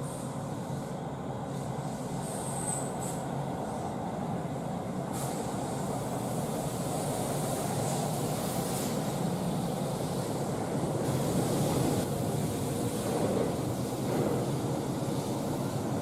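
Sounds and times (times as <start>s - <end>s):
electric train rumbling on rails: 0.0s - 16.0s.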